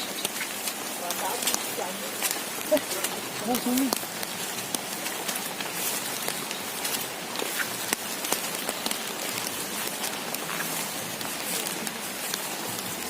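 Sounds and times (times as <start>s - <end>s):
heavy rain hissing: 0.0s - 13.0s
raindrops ticking: 0.0s - 13.0s.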